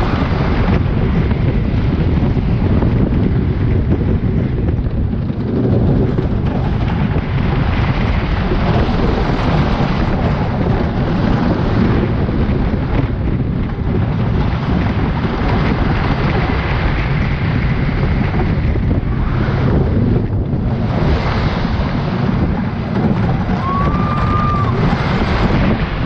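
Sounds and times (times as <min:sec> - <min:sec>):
roller coaster rumbling on track: 0:00.0 - 0:26.0
wind buffeting microphone: 0:00.0 - 0:26.0.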